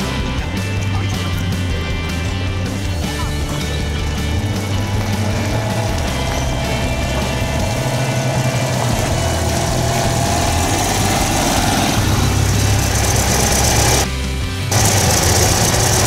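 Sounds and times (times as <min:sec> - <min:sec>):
small car engine idling: 0:00.0 - 0:16.0.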